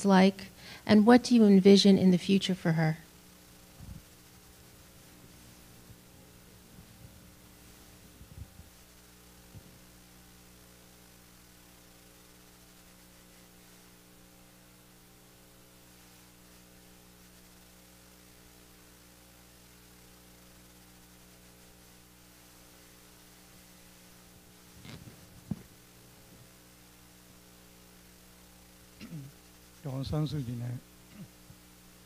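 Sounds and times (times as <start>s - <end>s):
electrical mains hum: 0.0s - 32.0s
faint hiss: 0.0s - 32.0s.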